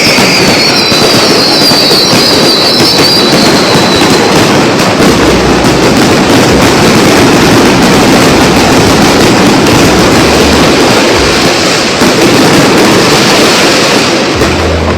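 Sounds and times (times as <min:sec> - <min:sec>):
fireworks bangs and crackles: 0:00.0 - 0:14.9.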